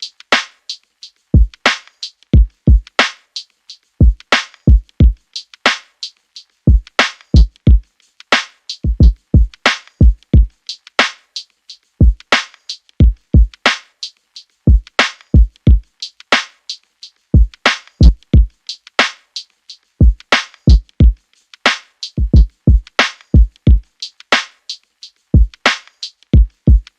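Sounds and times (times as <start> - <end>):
hip-hop drum-machine beat: 0.0 - 26.9.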